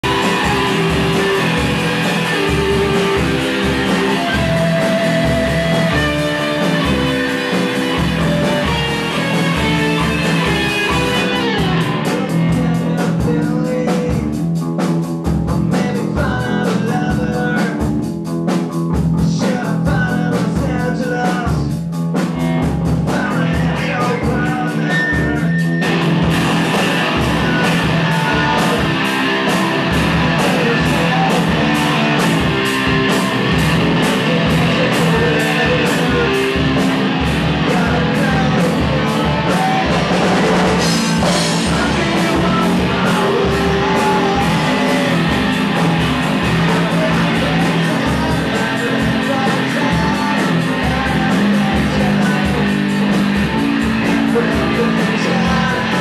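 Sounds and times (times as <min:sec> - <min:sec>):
person singing: 0:00.0 - 0:14.4, 0:15.6 - 0:17.9, 0:19.2 - 0:21.7, 0:23.0 - 0:56.0
bass guitar: 0:00.0 - 0:56.0
drums: 0:00.0 - 0:56.0
electric guitar: 0:00.0 - 0:56.0.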